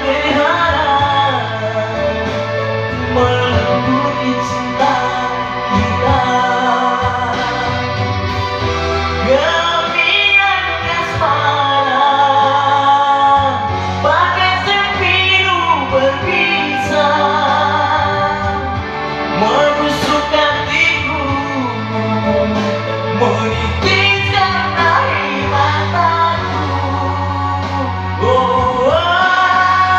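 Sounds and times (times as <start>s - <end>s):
music backing track with bass: 0.0s - 29.9s
person singing karaoke: 0.0s - 29.9s.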